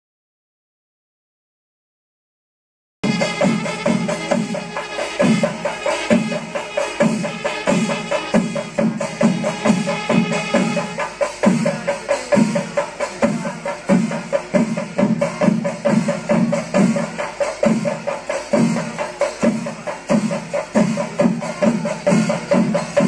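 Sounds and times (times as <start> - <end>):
drums beaten in steady rhythm: 3.0 - 23.0.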